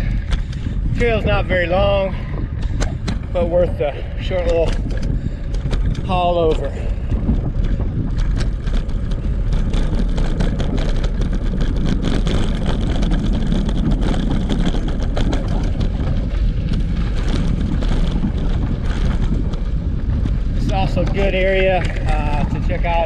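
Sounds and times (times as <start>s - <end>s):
bicycle rattling over bridge: 0.0s - 23.0s
wind noise on microphone: 0.0s - 23.0s.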